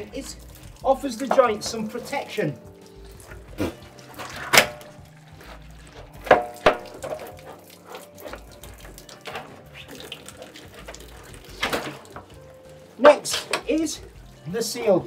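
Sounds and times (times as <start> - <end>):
water running and splashing into pipe: 0.0 - 15.0.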